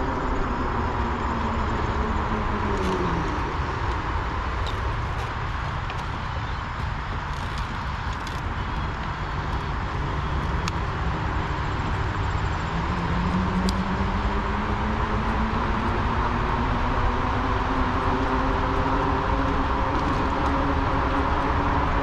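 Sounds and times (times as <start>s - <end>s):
tire road noise: 0.0s - 22.0s.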